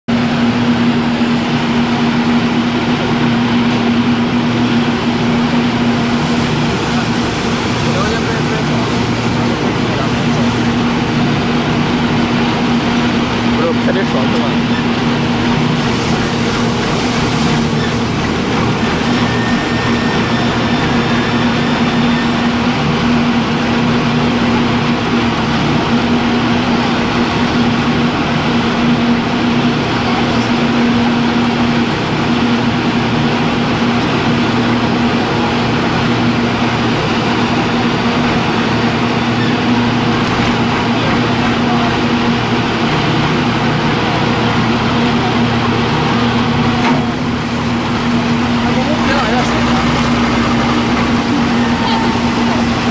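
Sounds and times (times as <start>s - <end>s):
straw crusher machine hum: 0.1s - 52.9s.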